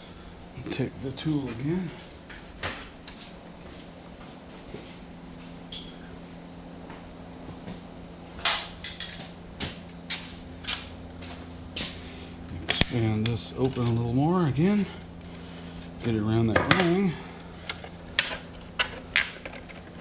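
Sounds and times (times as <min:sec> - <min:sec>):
high-pitched whine: 0:00.0 - 0:20.0
low hum: 0:00.0 - 0:20.0.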